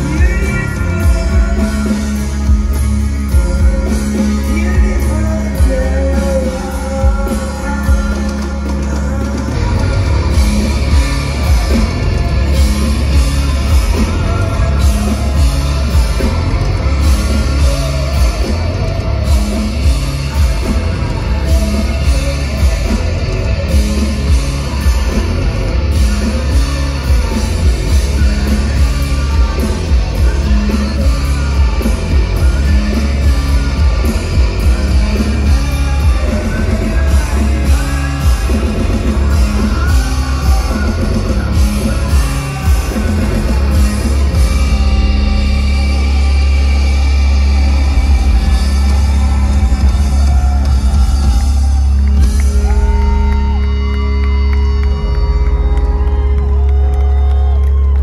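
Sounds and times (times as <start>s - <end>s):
drums: 0.0s - 58.0s
electric guitar: 0.0s - 58.0s
heavy bass: 0.0s - 58.0s
person singing: 0.0s - 58.0s.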